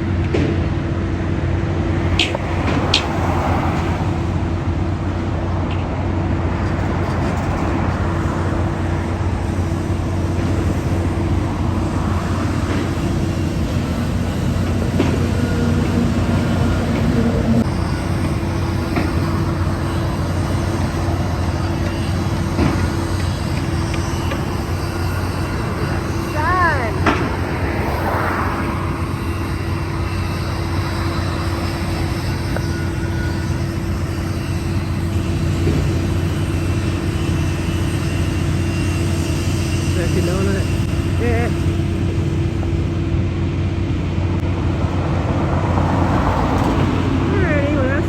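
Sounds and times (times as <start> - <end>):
car running hum: 0.0 - 37.3, 41.2 - 48.0
road noise: 0.0 - 48.0.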